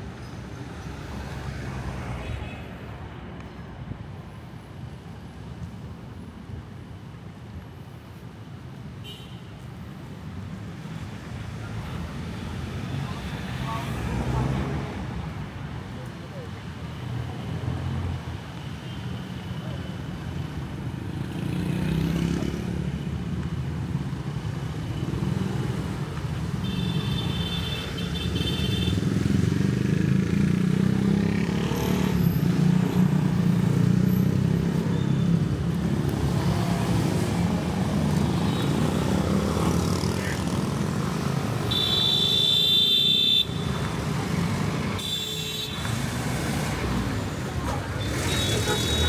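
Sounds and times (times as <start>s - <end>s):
traffic passing: 0.0s - 49.0s.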